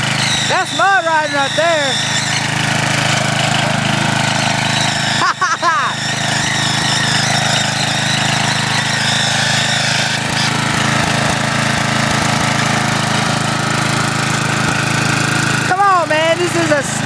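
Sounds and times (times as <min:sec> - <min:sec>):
riding mower engine running: 0:00.0 - 0:17.0.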